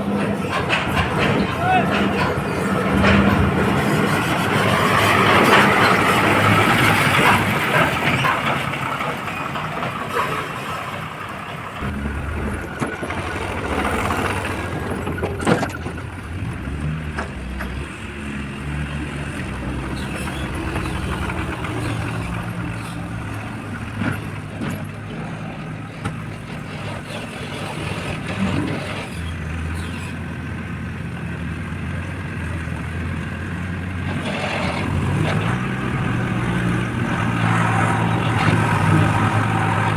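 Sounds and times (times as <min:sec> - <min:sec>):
backhoe diesel engine under load: 0:00.0 - 0:39.9.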